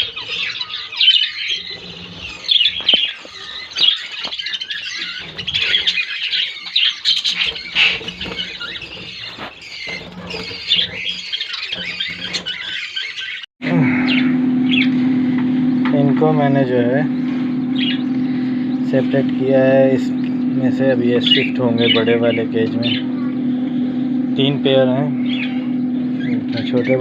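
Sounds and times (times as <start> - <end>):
budgerigars chattering and squawking: 0.0 - 15.0, 16.3 - 27.0.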